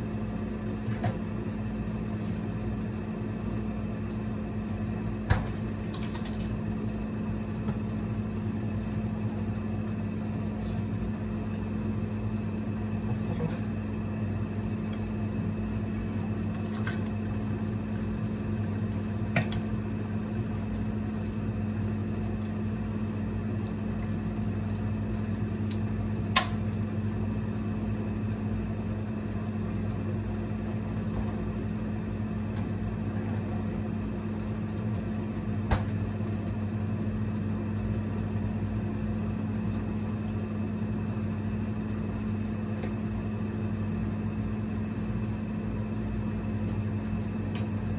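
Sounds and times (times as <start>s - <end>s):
induction cooker humming: 0.0s - 47.9s.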